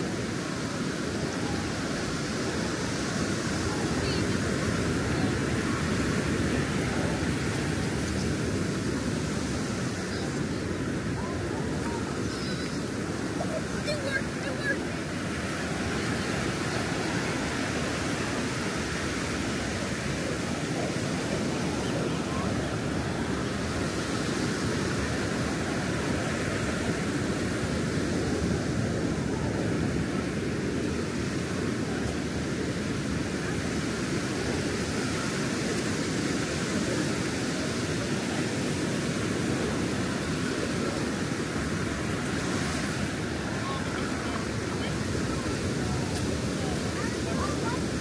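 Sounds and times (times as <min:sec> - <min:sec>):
surf washing onto beach: 0:00.0 - 0:48.0.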